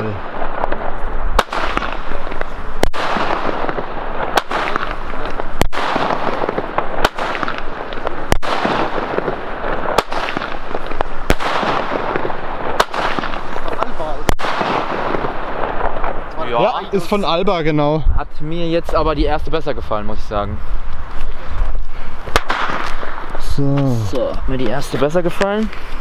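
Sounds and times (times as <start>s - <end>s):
firework shots sharp reports: 0.0s - 17.4s, 20.8s - 25.9s
distant fireworks crackling and banging: 0.0s - 17.7s, 18.3s - 26.0s.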